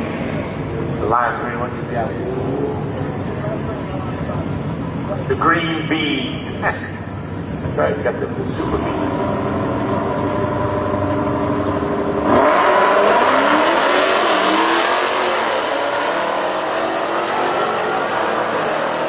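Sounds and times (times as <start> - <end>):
drag racing cars revving: 0.0 - 19.0.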